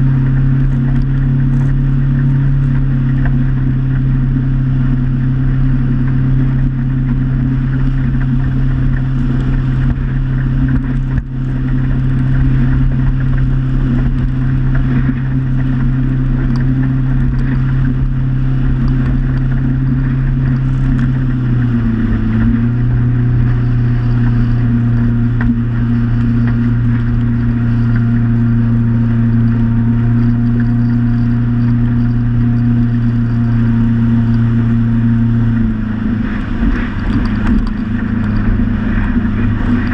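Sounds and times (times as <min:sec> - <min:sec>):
motorboat engine droning: 0:00.0 - 0:39.9
water noise: 0:00.0 - 0:39.9
wind noise: 0:00.0 - 0:39.9.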